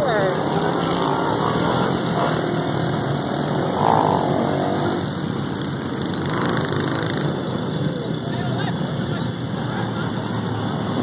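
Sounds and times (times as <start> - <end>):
small motorcycle engines running: 0.0 - 11.0.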